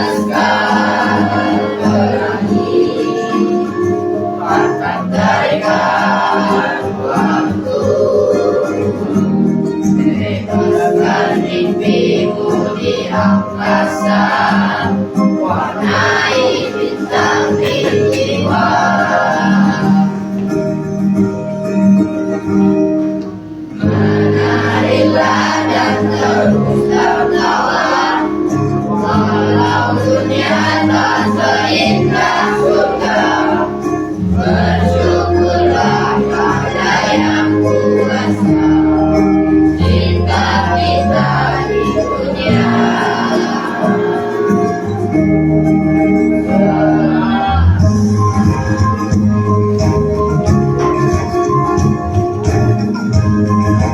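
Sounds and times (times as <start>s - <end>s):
choir singing: 0.0s - 21.0s, 23.8s - 53.9s
instrumental accompaniment: 0.0s - 53.9s.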